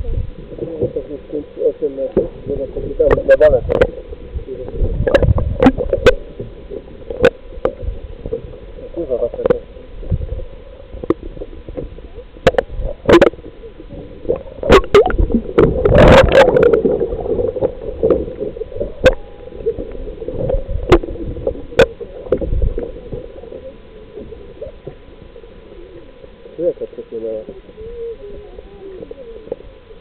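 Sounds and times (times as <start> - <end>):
steady hum: 0.0 - 30.0
water sloshing and gurgling: 0.0 - 30.0.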